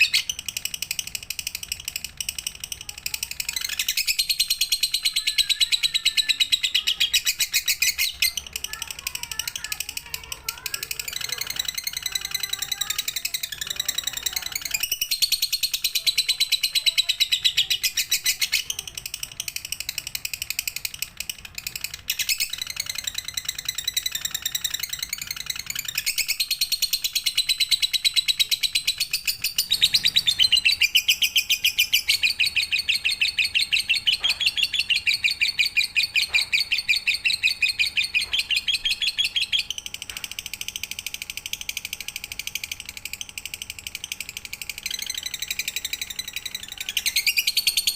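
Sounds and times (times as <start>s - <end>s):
bird chattering trill: 0.0s - 47.9s.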